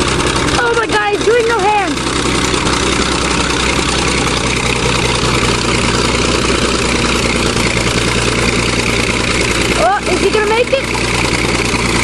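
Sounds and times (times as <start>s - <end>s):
bulldozer engine under load: 0.0s - 12.0s.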